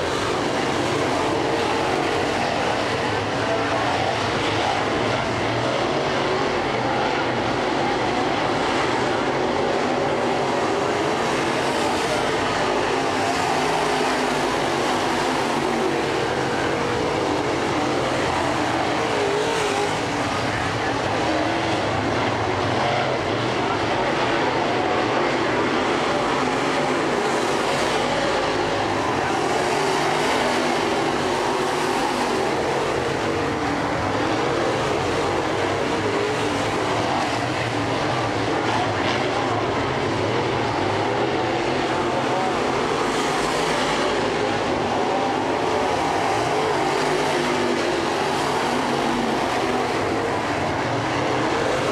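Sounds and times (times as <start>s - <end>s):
race car engines droning: 0.0s - 51.9s.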